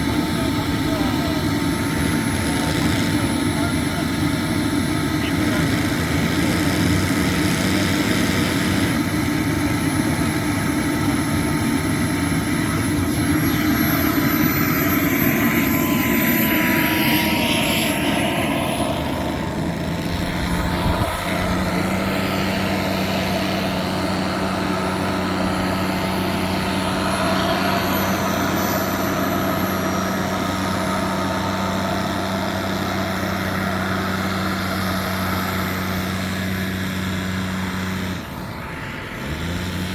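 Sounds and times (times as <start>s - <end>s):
model jet turbine whine: 0.0s - 39.9s
steady low hum: 0.0s - 39.9s.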